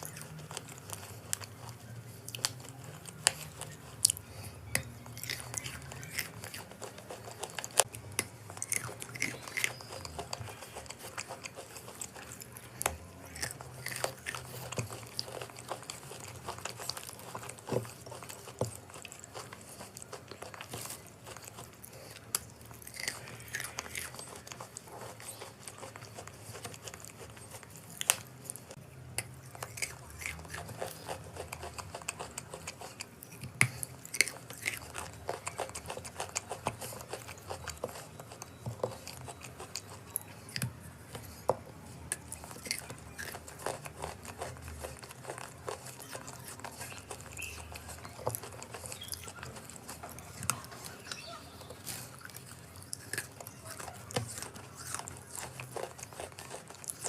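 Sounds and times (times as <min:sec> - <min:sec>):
person chewing crunchy chalk: 0:00.0 - 0:57.0.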